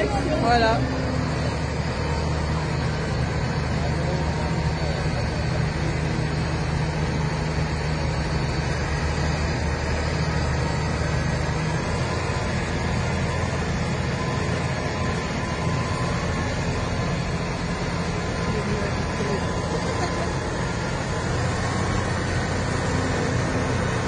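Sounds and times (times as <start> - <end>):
tractor engine humming: 0.0 - 24.0.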